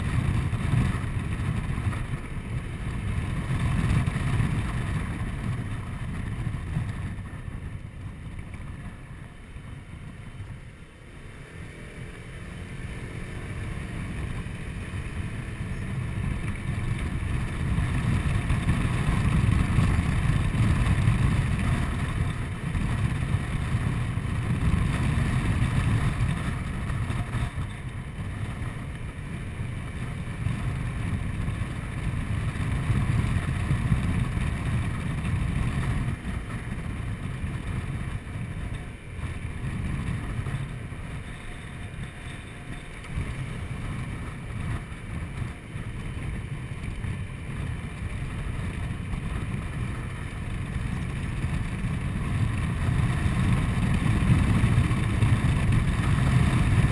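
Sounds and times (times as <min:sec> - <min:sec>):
road noise: 0:00.0 - 0:56.9
scooter engine drone: 0:00.0 - 0:56.9
wind rushing over microphone: 0:00.0 - 0:56.9.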